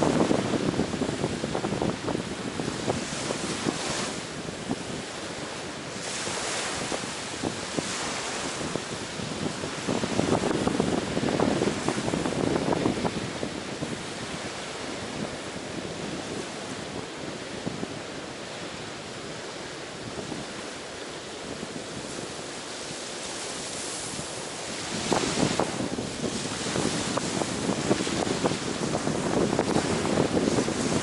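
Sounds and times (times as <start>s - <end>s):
sea waves breaking on beach: 0.0s - 31.0s
wind buffeting microphone: 0.0s - 31.0s.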